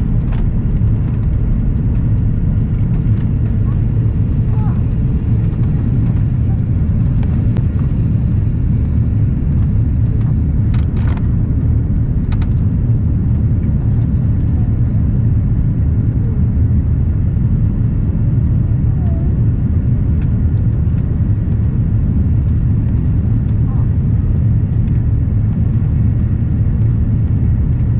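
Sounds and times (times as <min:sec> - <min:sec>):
airliner cabin engine rumble: 0:00.0 - 0:27.9.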